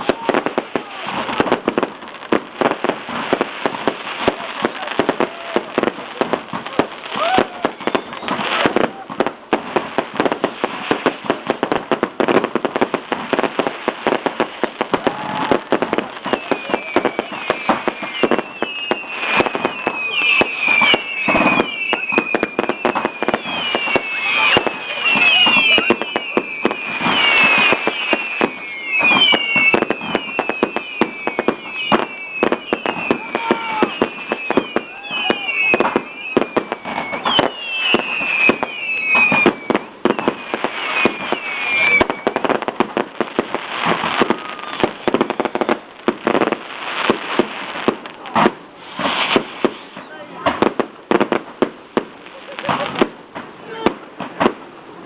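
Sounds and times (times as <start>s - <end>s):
descending firework whistles: 0.0s - 54.6s
fireworks crackling bangs: 0.0s - 55.0s.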